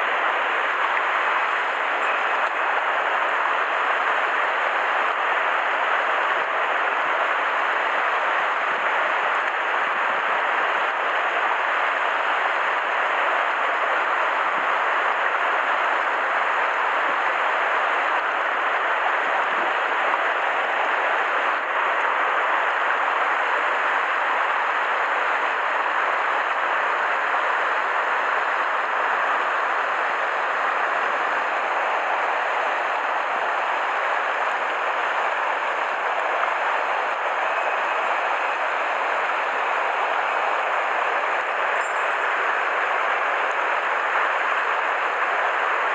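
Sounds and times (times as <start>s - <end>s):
water rushing over boulders: 0.0s - 45.9s.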